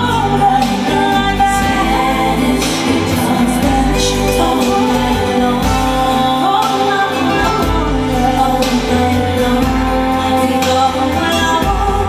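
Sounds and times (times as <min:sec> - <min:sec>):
song with singing over loudspeakers: 0:00.0 - 0:12.0.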